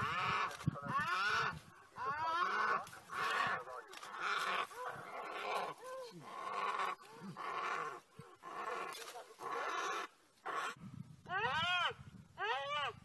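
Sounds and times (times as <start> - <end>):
hyenas yelping: 0.0 - 13.0.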